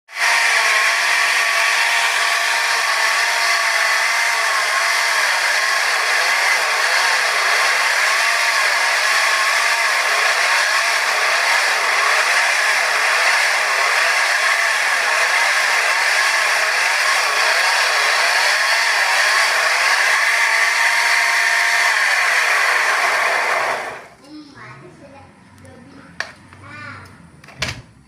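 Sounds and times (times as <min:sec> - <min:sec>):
small petrol engine running: 0:00.1 - 0:24.1.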